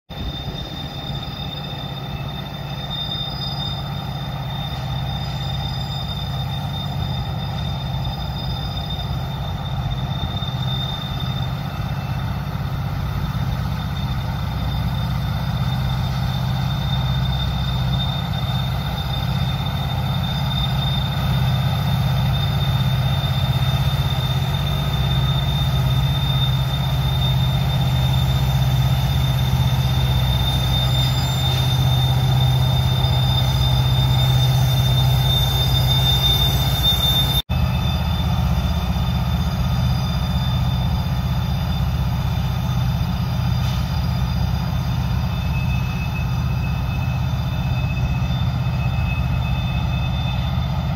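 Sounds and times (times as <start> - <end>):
diesel locomotives rumbling: 0.0 - 50.9
high-pitched wheel squeal: 0.1 - 50.9.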